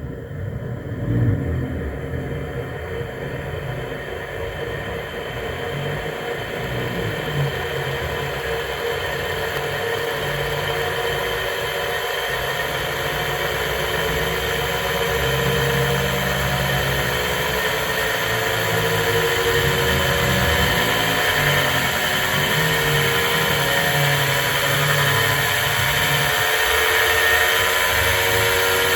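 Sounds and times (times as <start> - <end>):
low rattling hum: 0.0 - 28.9
fan motor whirring: 1.9 - 28.9.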